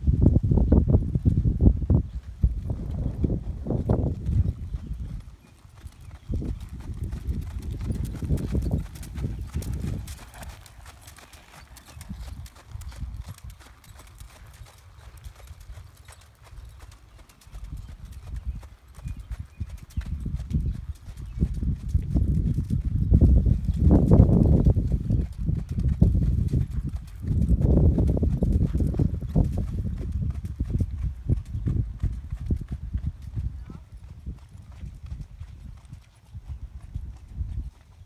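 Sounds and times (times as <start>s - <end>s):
horse hoofbeats on sand: 2.0s - 38.0s.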